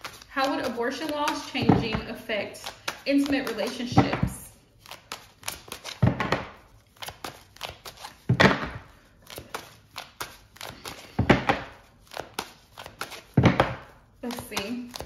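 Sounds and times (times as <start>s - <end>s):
cards shuffling: 0.0s - 15.0s.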